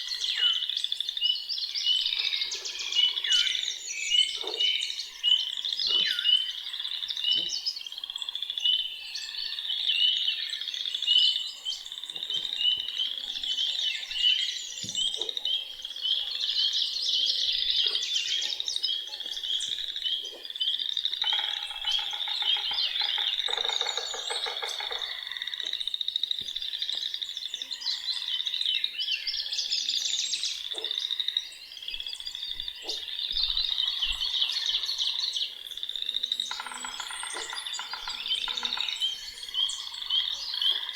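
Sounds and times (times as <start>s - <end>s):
songbirds chirping and singing: 0.0s - 40.9s
frogs calling: 2.0s - 29.4s, 30.5s - 40.9s.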